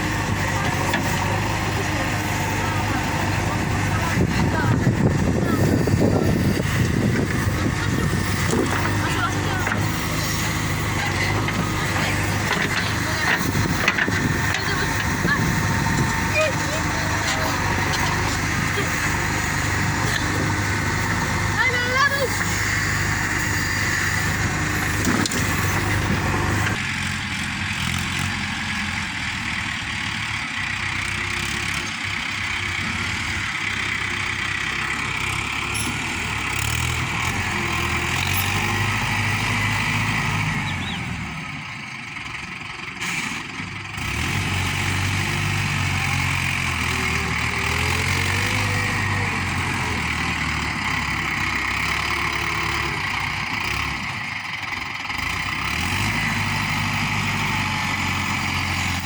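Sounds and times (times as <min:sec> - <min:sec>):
heavy diesel machinery engine: 0:00.0 - 0:59.0.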